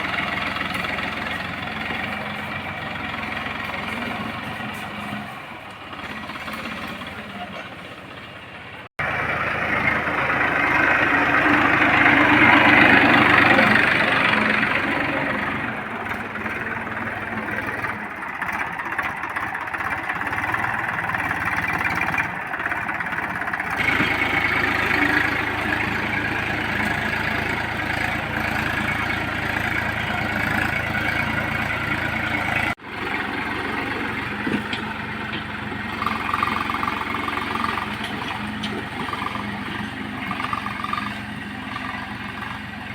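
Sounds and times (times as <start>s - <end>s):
tractor diesel engine under load: 0.0s - 42.9s.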